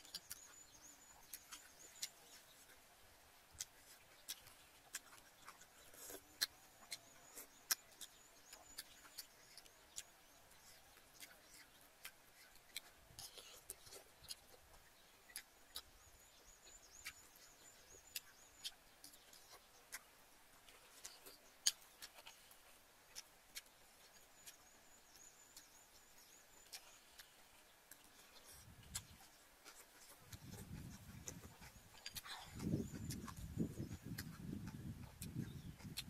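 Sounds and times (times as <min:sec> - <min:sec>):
sipping and chewing: 0:00.0 - 0:36.0.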